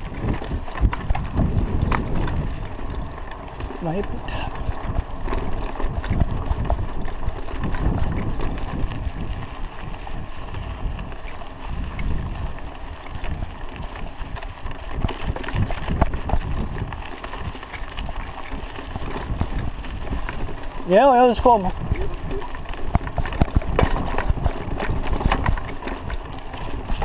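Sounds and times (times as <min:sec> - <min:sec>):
bike frame rattling: 0:00.0 - 0:27.0
bike tyres crunching on dirt: 0:00.0 - 0:27.0
wind buffeting microphone: 0:00.0 - 0:27.0.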